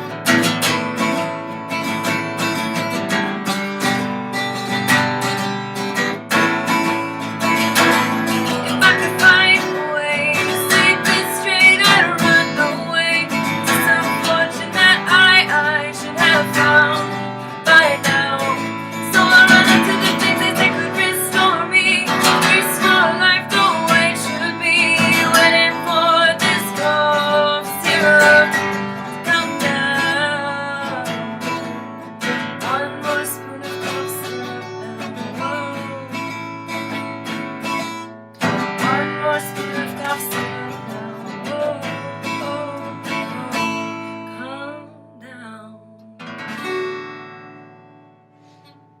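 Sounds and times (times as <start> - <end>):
acoustic guitar strumming: 0.0 - 49.0
person singing: 6.4 - 46.2.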